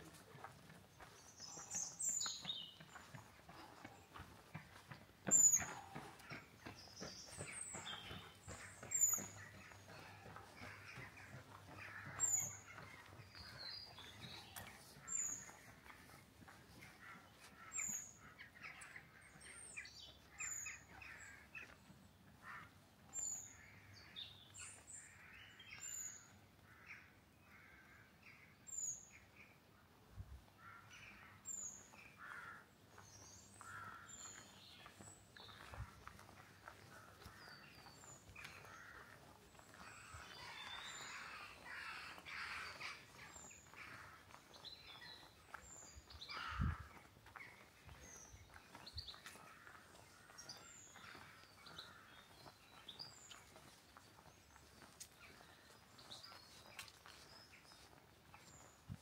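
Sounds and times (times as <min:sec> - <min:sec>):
birds chattering: 0:00.0 - 0:26.4, 0:30.7 - 0:58.9.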